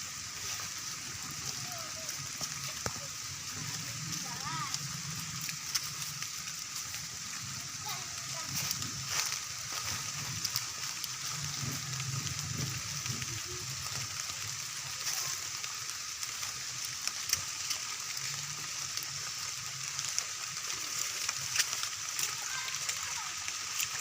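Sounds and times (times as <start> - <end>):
rain hissing: 0.0 - 24.0
raindrop ticks: 0.1 - 24.0.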